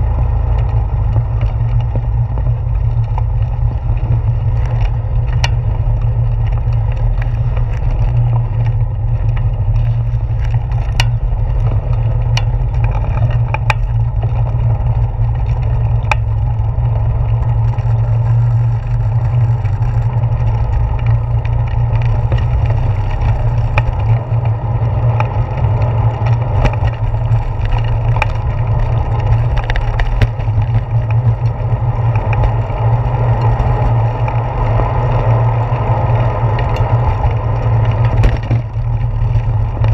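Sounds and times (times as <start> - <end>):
low rumble of vibration and wind: 0.0 - 39.9
tyres clicking on wooden boardwalk: 0.0 - 39.9.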